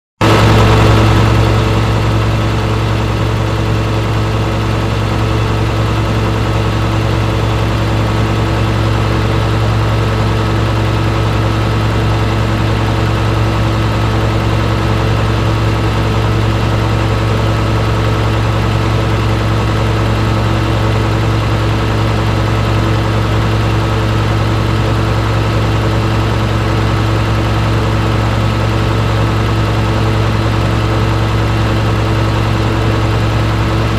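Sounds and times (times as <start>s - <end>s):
engine idling: 0.2s - 33.9s.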